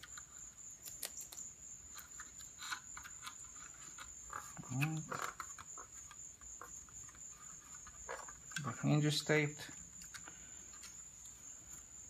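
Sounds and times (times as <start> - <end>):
tape and wood handling noises: 0.0 - 12.0.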